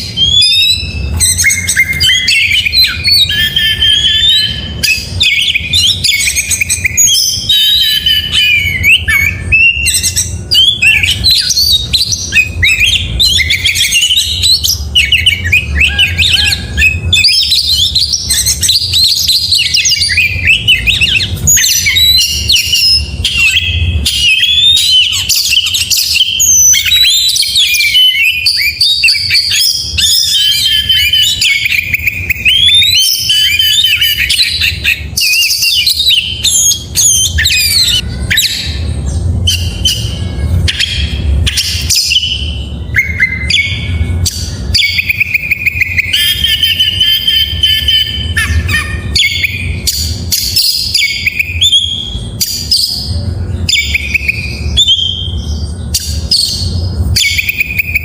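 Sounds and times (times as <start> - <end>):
songbird singing whistles and trills: 0.0 - 58.0.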